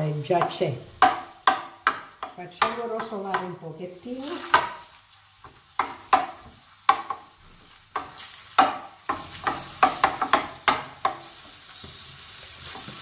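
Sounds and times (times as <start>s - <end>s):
sausage sizzling in pan: 0.0s - 13.0s.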